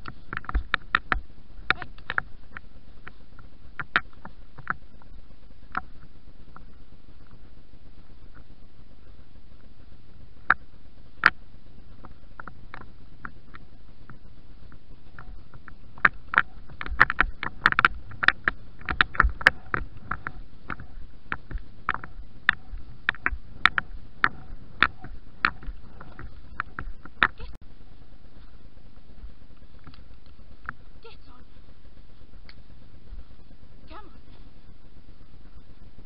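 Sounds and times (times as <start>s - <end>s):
hoof clicks and knocks: 0.0s - 9.8s, 10.4s - 36.0s.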